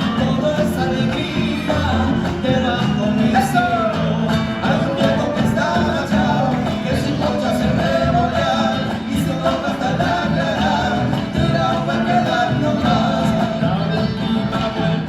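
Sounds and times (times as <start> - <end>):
man singing folk song: 0.0 - 15.0
strummed guitar: 0.0 - 15.0.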